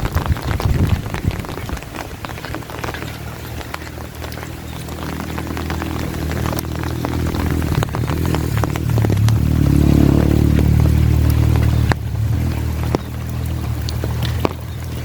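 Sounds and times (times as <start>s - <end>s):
rain with drop ticks: 0.0s - 15.0s
vehicle engine running: 0.0s - 15.0s.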